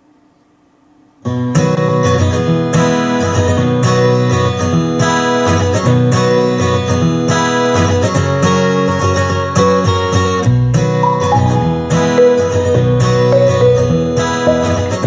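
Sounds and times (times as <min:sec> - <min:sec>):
strummed acoustic guitar music: 0:01.3 - 0:15.0.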